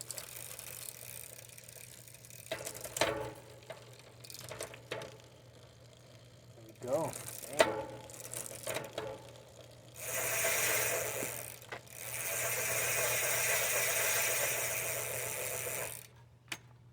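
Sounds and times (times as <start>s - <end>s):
bicycle chain and freewheel whirring: 0.0s - 16.1s.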